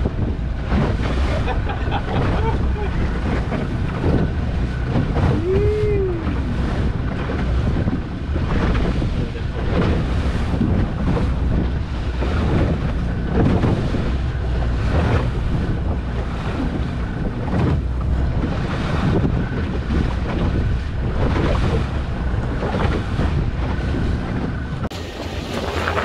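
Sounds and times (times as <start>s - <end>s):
water rushing past boat hull: 0.0s - 26.0s
wind buffeting microphone: 0.0s - 26.0s.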